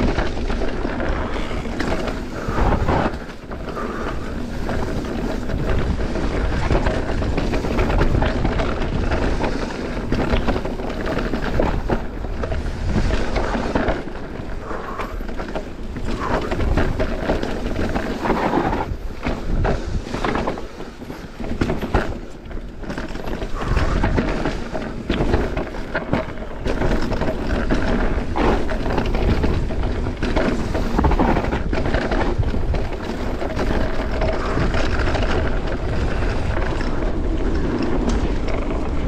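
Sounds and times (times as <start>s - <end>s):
bike rattling: 0.0s - 39.0s
tyres grinding over stones: 0.0s - 39.0s
wind on microphone: 0.0s - 39.0s.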